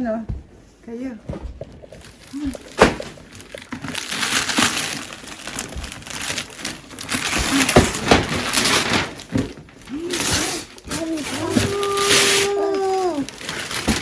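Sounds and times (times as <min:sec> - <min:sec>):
wrapping paper tearing and crumpling: 0:01.9 - 0:14.0.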